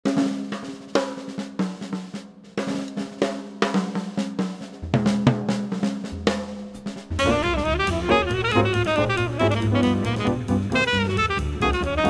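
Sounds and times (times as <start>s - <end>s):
jazz drum kit solo: 0.0s - 12.0s.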